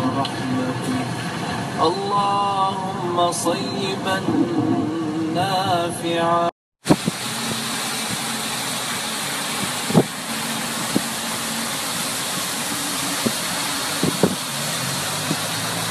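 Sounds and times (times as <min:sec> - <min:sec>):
car road and engine noise: 0:00.0 - 0:15.9.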